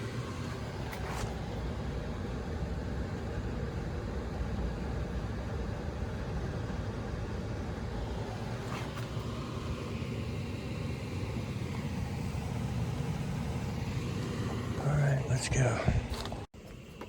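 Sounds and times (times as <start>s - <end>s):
air conditioning rumble: 0.0s - 17.0s.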